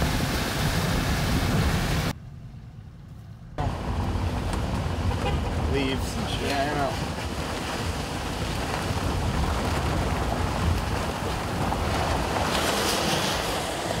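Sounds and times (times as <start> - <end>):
road rumble: 0.0 - 14.0
wind buffeting car: 0.0 - 14.0.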